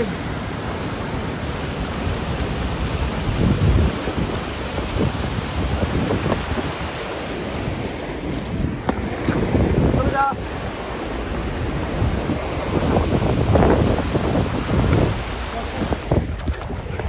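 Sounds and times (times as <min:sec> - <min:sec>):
rushing floodwater: 0:00.0 - 0:17.0
wind buffeting microphone: 0:00.0 - 0:17.0.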